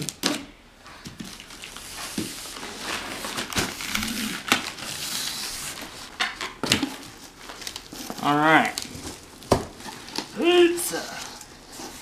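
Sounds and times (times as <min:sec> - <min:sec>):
crinkling: 0:00.8 - 0:12.0.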